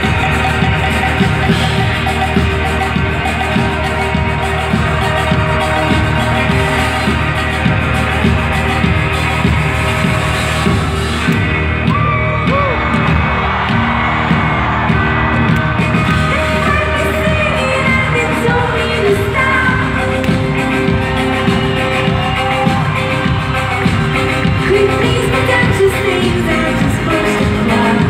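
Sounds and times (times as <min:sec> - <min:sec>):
crowd whooping: 0:00.0 - 0:28.0
live band playing rock: 0:00.0 - 0:28.0.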